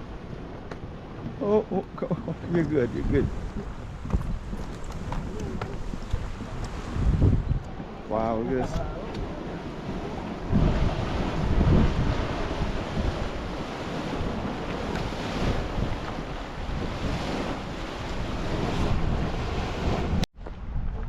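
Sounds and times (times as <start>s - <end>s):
boiling mud churning: 0.0s - 20.3s
wind buffeting microphone: 0.0s - 21.0s.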